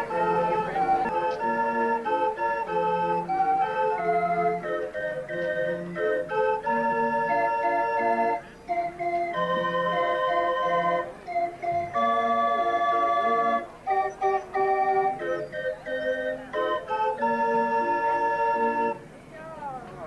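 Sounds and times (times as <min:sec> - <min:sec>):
barrel organ playing: 0:00.0 - 0:20.0.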